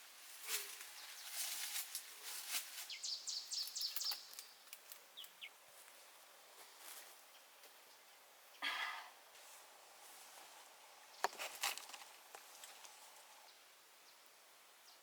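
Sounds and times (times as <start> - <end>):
faint crackling and rustling: 0.0 - 8.2, 8.8 - 13.6.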